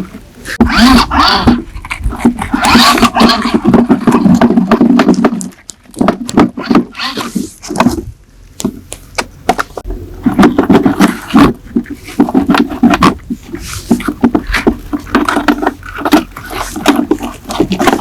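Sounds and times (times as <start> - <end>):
scraping: 0.0 - 18.0.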